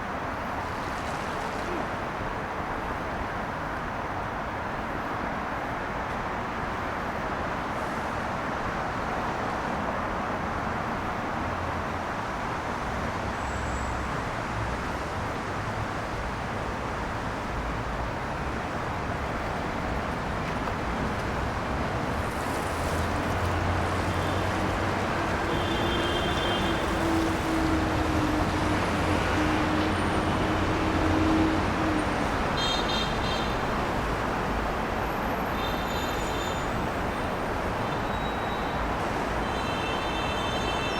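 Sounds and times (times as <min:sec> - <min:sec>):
tyres hissing on wet road: 0:00.2 - 0:05.2, 0:06.2 - 0:40.9.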